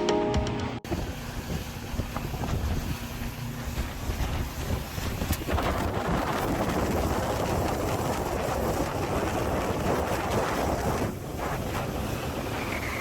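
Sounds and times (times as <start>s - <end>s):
water rushing past boat: 0.8s - 13.0s
wind buffeting microphone: 0.8s - 13.0s.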